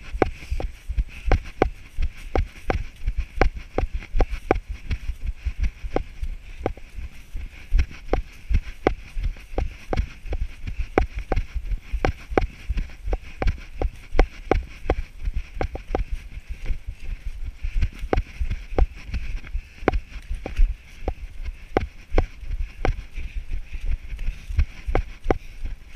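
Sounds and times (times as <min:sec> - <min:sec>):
running footfalls on a trail: 0:00.0 - 0:25.9.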